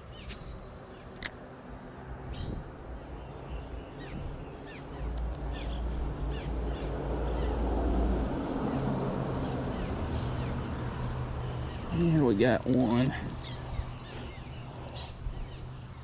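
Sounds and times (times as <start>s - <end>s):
small birds chirping: 0.0s - 1.3s, 2.2s - 16.0s.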